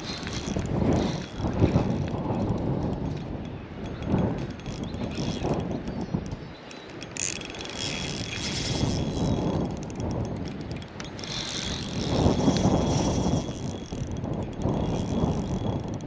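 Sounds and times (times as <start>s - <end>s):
fishing reel clicking: 0.0s - 16.0s
wind rumble on microphone: 0.0s - 16.0s.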